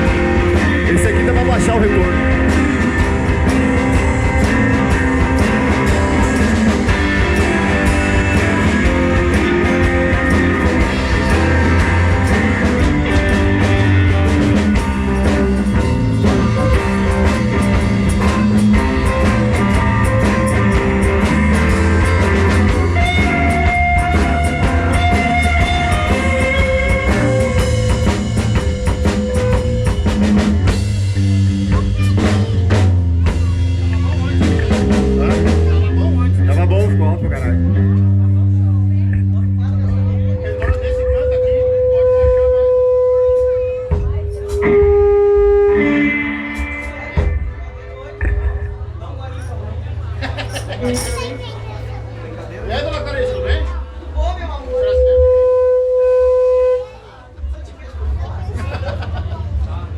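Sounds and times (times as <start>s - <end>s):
electric guitar: 0.0s - 52.3s
drum kit: 0.0s - 54.0s.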